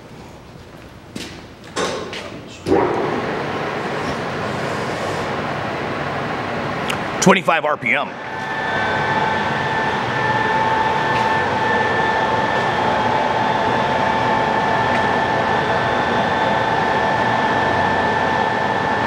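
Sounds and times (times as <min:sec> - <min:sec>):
lathe humming with gear whine: 0:02.8 - 0:07.2, 0:08.0 - 0:19.0.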